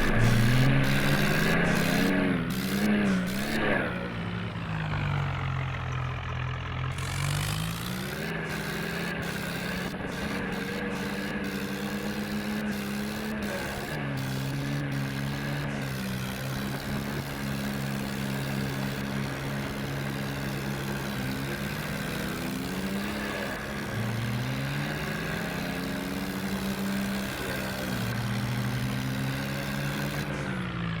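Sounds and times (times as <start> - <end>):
tractor diesel engine revving: 0.0 - 31.0.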